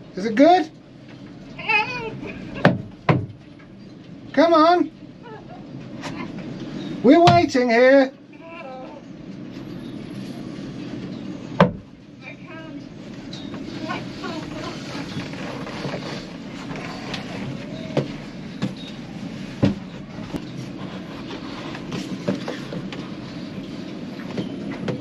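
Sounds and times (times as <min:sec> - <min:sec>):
low rumbling background noise: 0:00.0 - 0:25.0.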